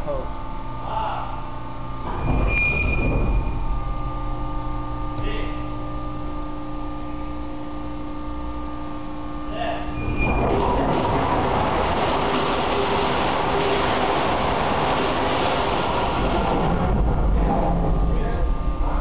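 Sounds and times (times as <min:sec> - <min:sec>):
machinery hum: 0:00.0 - 0:19.0.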